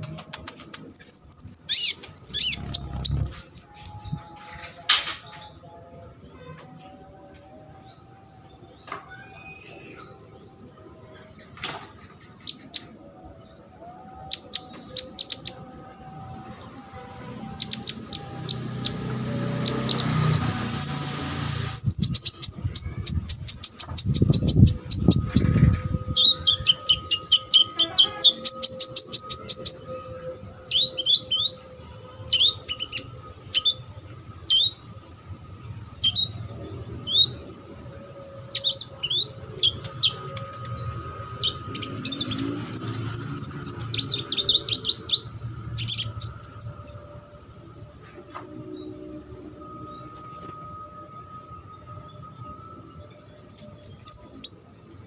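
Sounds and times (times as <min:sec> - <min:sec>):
sunbird singing: 0:00.0 - 0:05.8, 0:07.7 - 0:55.0.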